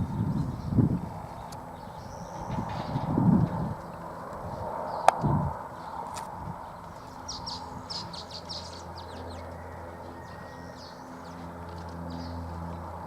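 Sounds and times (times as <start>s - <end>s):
low hum: 0.0s - 13.0s
small birds chirping: 0.0s - 13.0s.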